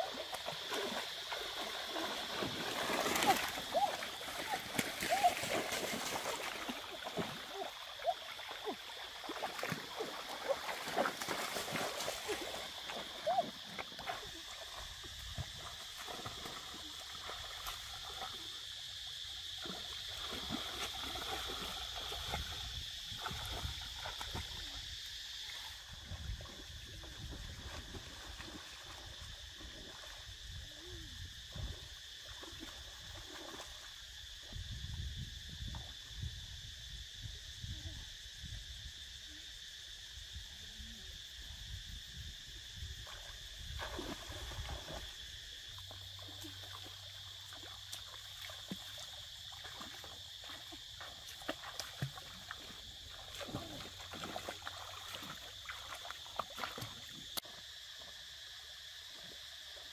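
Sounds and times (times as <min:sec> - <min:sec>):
water splashing and sloshing: 0:00.0 - 0:30.8, 0:31.6 - 0:34.0, 0:43.0 - 0:58.2.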